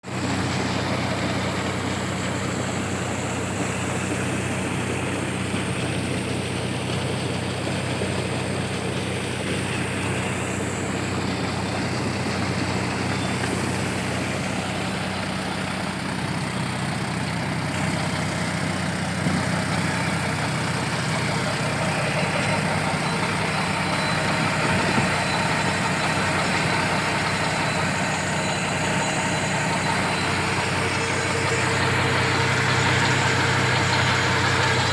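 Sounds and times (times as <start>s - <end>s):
tractor engine running: 0.0s - 34.9s
water pump rushing: 0.0s - 34.9s.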